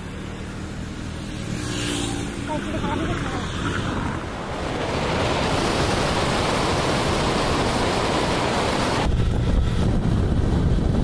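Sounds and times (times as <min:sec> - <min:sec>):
wind rushing over microphone: 0:01.3 - 0:11.0.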